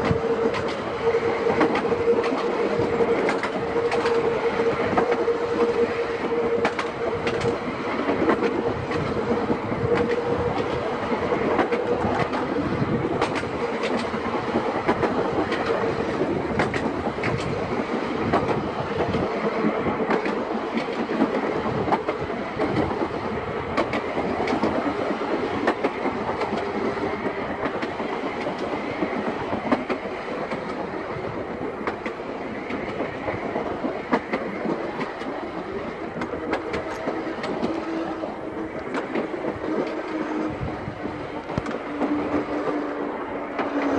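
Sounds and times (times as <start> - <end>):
tram wheels rumbling on rails: 0.0 - 43.9
wheels clicking over rail joints: 0.0 - 43.9.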